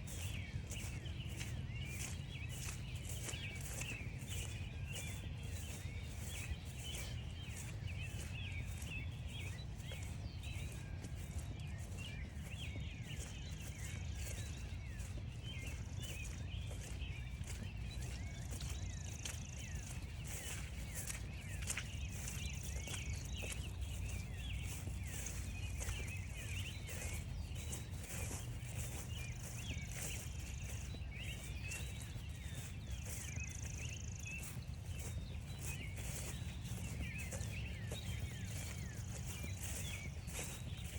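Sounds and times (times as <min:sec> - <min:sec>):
footsteps crunching on frosty grass: 0:00.0 - 0:40.9
songbirds chirping and trilling: 0:00.0 - 0:40.9.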